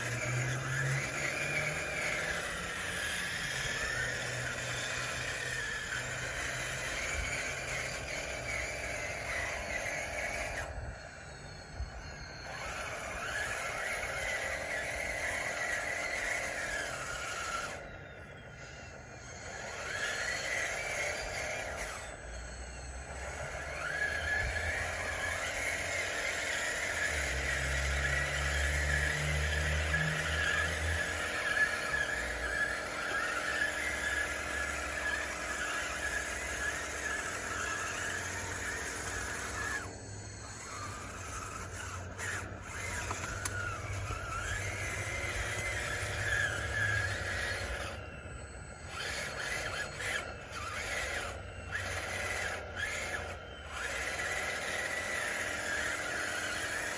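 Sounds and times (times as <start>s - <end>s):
toy bulldozer whining: 0.0s - 56.9s.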